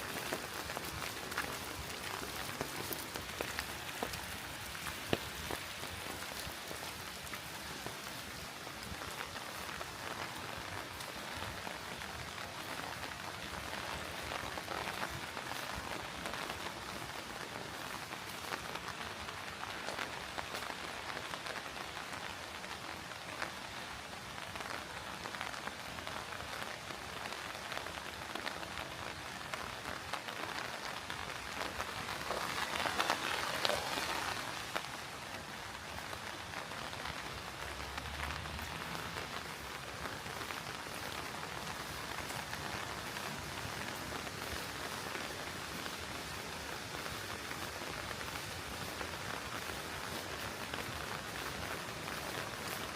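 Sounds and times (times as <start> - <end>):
steady rain: 0.0 - 52.9.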